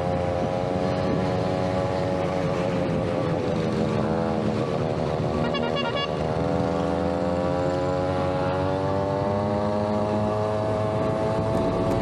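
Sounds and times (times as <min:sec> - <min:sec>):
two-stroke scooter engine accelerating: 0:00.0 - 0:12.0.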